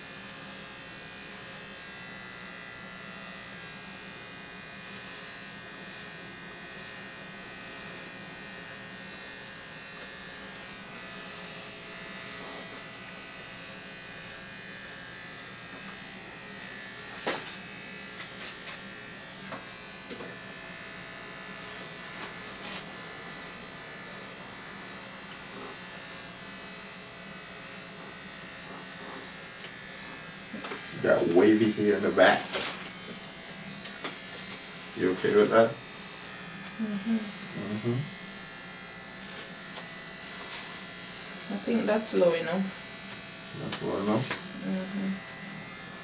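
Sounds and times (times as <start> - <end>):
electric hair clippers buzzing: 0.0 - 46.0.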